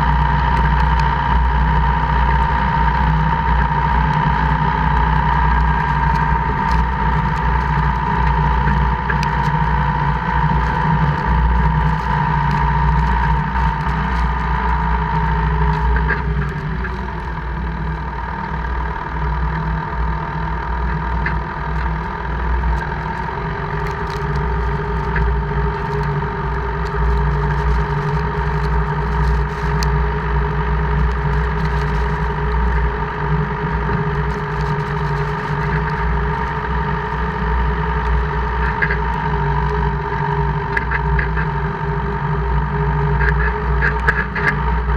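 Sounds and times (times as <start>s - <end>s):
drivetrain whine: 0.0s - 44.9s
engine hum: 0.0s - 44.9s.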